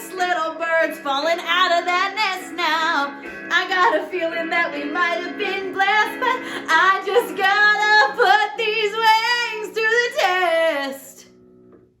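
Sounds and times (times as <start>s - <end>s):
woman singing: 0.0s - 11.3s.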